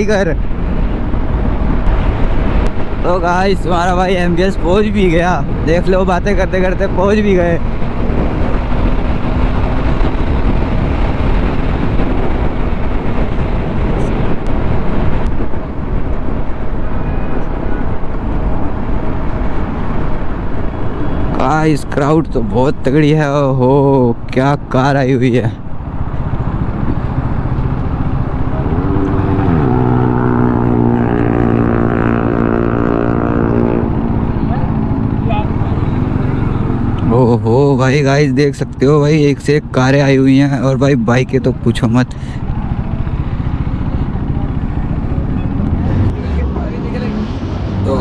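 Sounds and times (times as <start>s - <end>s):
motorcycle engine hum: 0.0s - 48.0s
wind rushing over microphone: 0.0s - 48.0s.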